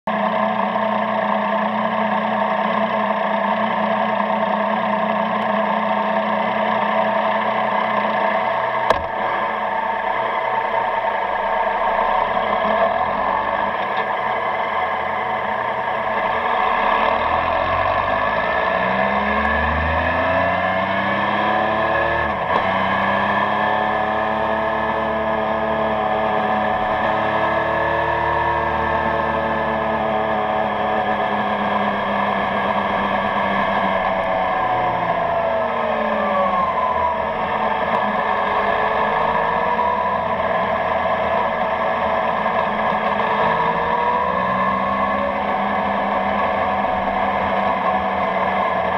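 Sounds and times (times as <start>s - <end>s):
motorcycle engine revving: 0.1s - 48.9s.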